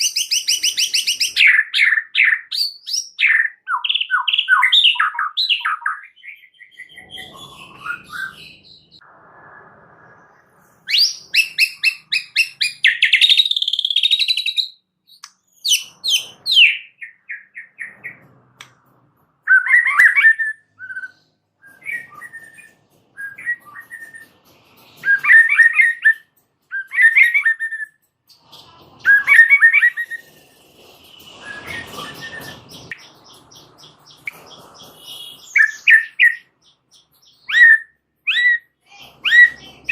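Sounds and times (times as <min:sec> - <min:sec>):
bird singing trills: 0:00.0 - 0:09.0, 0:10.9 - 0:18.2, 0:19.4 - 0:30.3, 0:31.0 - 0:39.9.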